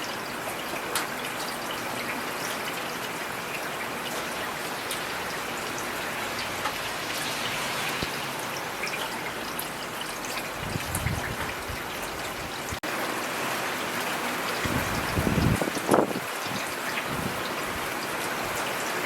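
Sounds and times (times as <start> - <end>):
hiss of rain: 0.0 - 19.0.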